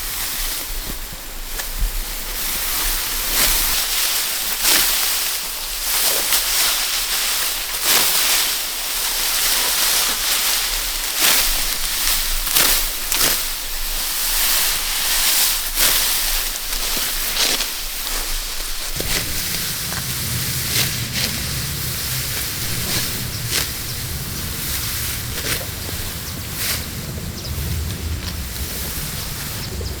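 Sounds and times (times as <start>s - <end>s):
rice stalks rustling: 0.0s - 30.0s.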